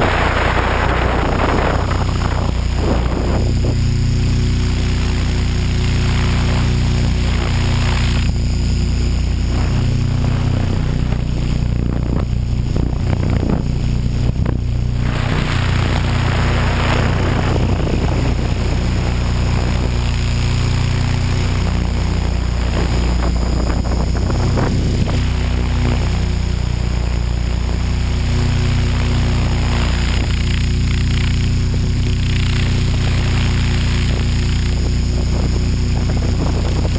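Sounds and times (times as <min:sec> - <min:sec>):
high motor whine: 0:00.0 - 0:36.9
model helicopter rotor drone: 0:00.0 - 0:36.9
rush of air: 0:00.0 - 0:36.9.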